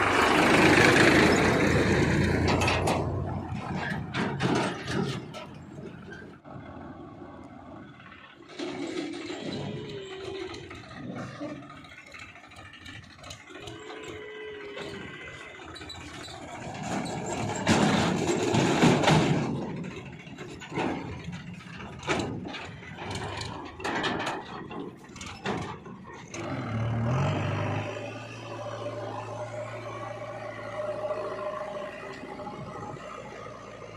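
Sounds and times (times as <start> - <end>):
backhoe loader engine running: 0.0 - 33.9.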